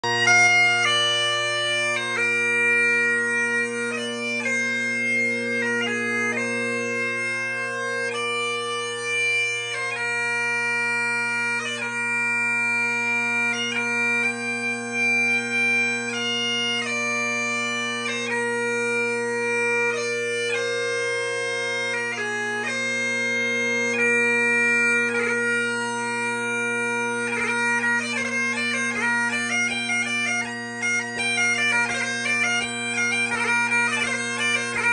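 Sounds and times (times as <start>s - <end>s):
bagpipe chanter playing tune: 0.0s - 34.9s
bagpipe drones: 0.0s - 34.9s.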